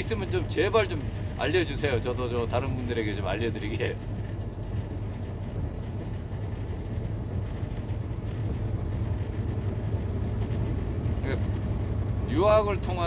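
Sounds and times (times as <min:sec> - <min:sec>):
road and tyre noise: 0:00.0 - 0:13.0
truck engine drone: 0:00.0 - 0:13.0.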